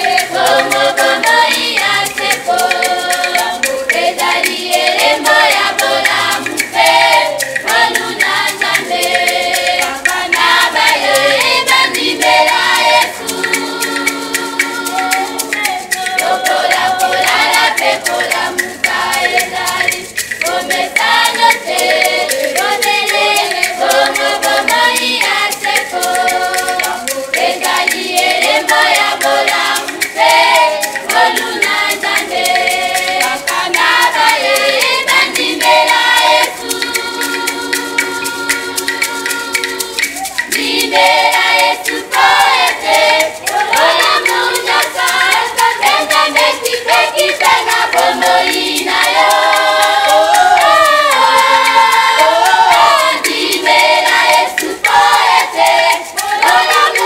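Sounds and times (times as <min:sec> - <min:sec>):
choir singing a cappella: 0:00.0 - 0:57.0
hand claps: 0:00.0 - 0:57.0.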